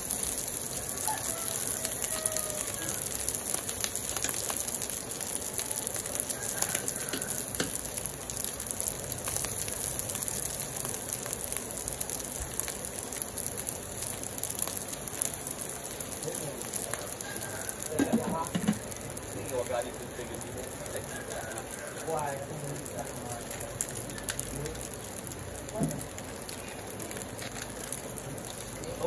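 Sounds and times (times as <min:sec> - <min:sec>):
rice sizzling in a wok: 0:00.0 - 0:29.0.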